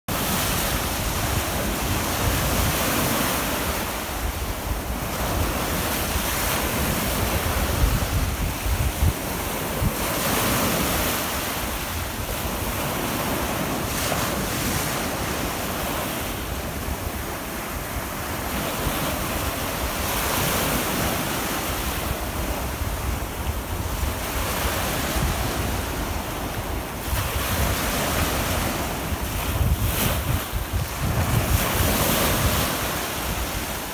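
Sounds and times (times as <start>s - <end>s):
small waves washing up beach: 0.1s - 33.9s
wind buffeting microphone: 0.2s - 33.9s.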